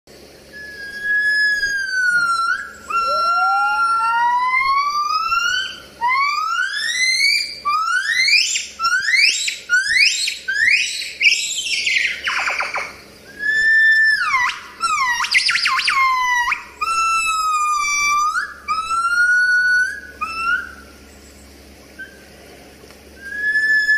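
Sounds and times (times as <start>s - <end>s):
gibbons whooping calls: 0.4s - 22.5s, 23.2s - 23.9s.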